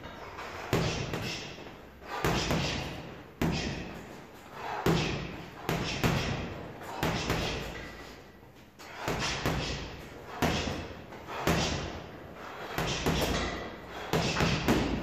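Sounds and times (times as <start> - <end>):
boxing gloves striking punching bag: 0.6 - 4.0, 4.6 - 7.8, 8.9 - 15.0.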